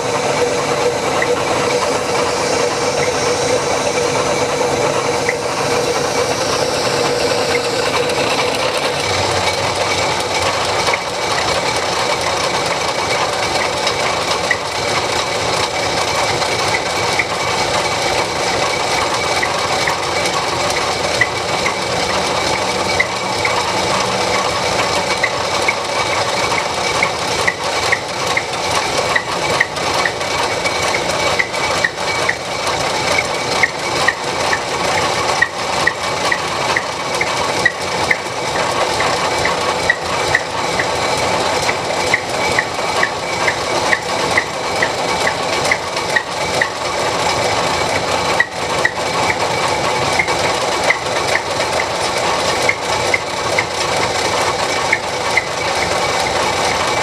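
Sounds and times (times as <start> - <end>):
mechanical running noise: 0.0 - 57.0.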